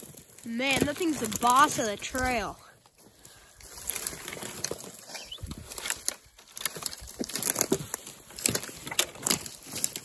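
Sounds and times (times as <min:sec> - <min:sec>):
boots crunching through dry grass: 0:00.0 - 0:10.0.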